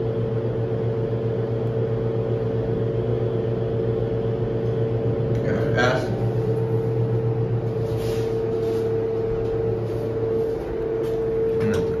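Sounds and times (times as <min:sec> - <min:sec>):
elevator hum with whining tone: 0:00.0 - 0:12.0.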